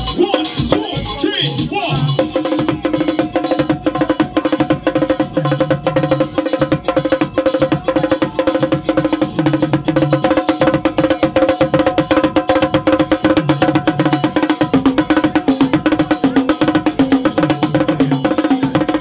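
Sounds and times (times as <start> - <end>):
fast drumming on bongos and cymbal: 0.0 - 19.0
pitched dance music: 0.0 - 19.0.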